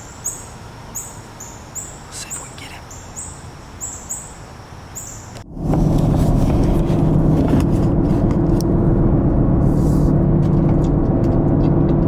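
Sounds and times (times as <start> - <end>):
car engine drone: 0.0 - 12.0
road noise: 0.0 - 12.0.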